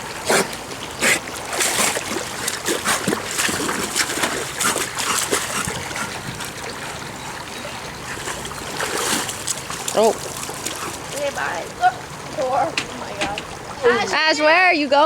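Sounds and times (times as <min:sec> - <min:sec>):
water splashing in a pool: 0:00.0 - 0:14.9.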